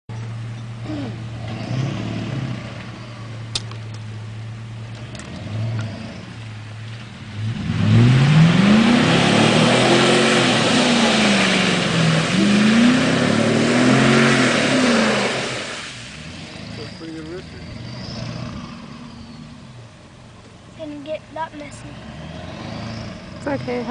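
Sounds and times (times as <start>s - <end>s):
truck engine idling and revving: 0.1s - 23.9s.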